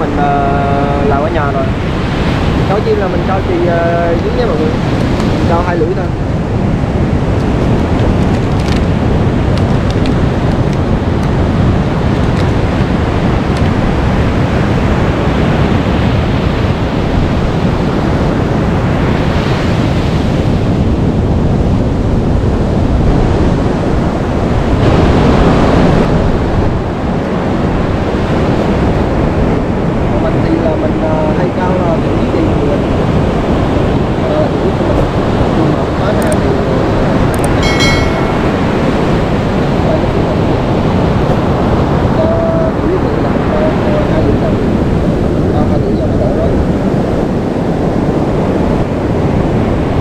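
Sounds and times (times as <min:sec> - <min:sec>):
surf breaking on a beach: 0:00.0 - 0:50.0
wind buffeting microphone: 0:00.0 - 0:50.0.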